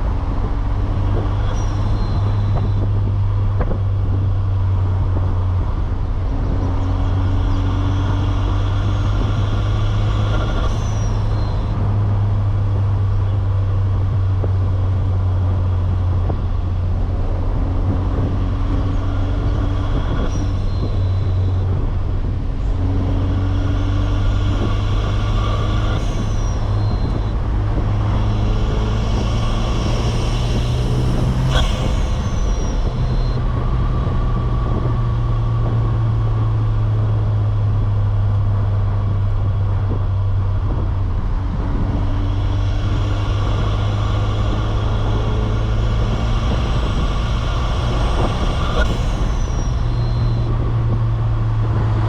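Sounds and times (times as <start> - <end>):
faint high turbo whistle: 0.0 - 3.5, 4.1 - 13.4, 17.5 - 37.2, 40.7 - 51.5
car engine droning: 0.0 - 52.0.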